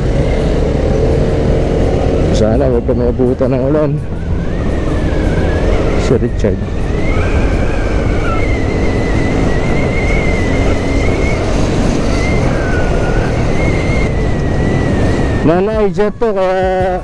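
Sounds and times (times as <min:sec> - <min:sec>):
road and wind noise: 0:00.0 - 0:17.0
scooter engine running: 0:00.0 - 0:17.0.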